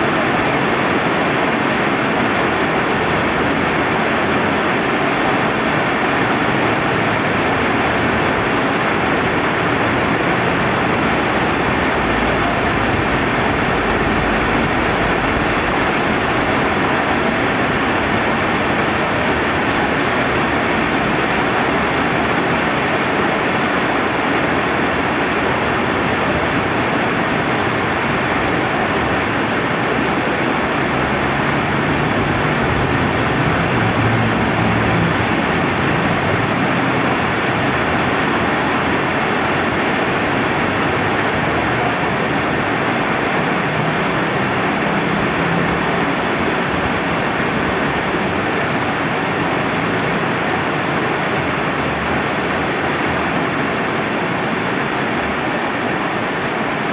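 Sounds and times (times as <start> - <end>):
rushing river: 0.0 - 56.9
steady rain falling: 0.0 - 56.9.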